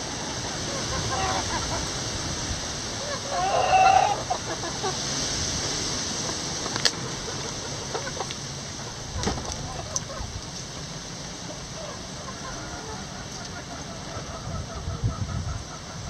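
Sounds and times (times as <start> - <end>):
chicken drawn-out call: 0.0 - 16.0
chickens clucking: 0.0 - 16.0
steady rain hissing: 0.0 - 16.0.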